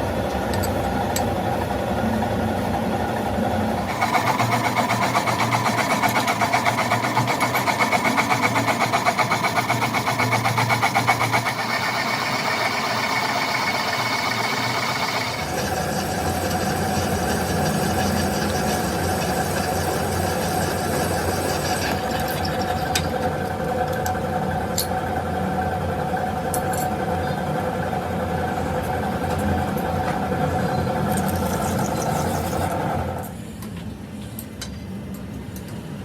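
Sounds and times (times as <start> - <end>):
machine shop machinery running: 0.0 - 33.5.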